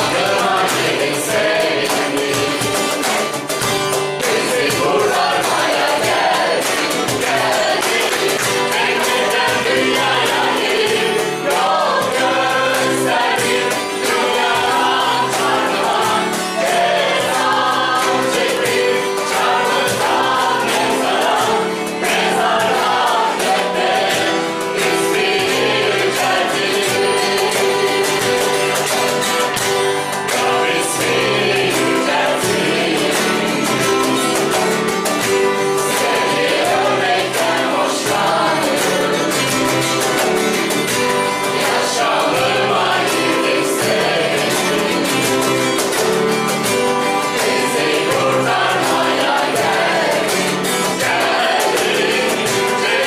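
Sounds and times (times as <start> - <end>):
acoustic guitar strumming: 0.0 - 53.0
cajon played with hands: 0.0 - 53.0
women's voices singing together: 0.0 - 53.0.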